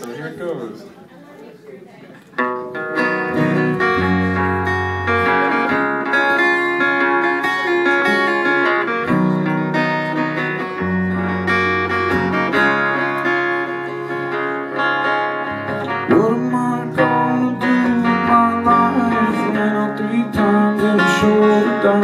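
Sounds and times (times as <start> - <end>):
acoustic guitar chords: 2.4 - 22.0.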